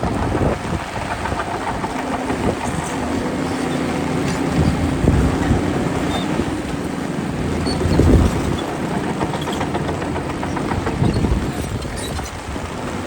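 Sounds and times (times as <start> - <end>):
heavy machinery diesel engine rumbling: 0.0 - 13.0.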